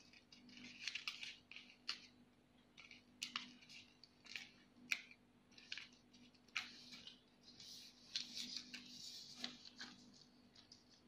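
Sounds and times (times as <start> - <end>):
paper rustling and crackling: 0.0 - 11.0.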